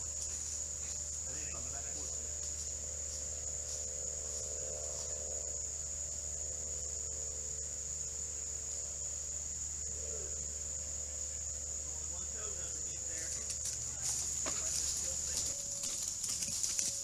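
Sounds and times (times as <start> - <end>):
faint low hum: 0.0 - 17.0
insects trilling: 0.0 - 17.0.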